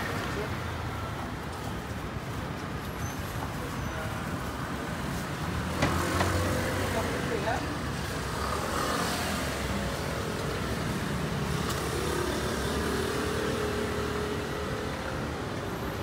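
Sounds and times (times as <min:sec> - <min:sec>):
city road traffic: 0:00.0 - 0:16.0.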